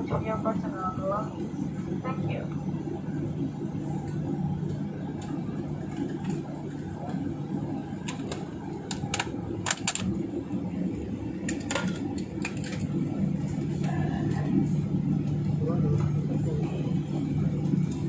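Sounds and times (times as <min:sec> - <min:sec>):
airliner cabin hum: 0:00.0 - 0:18.0.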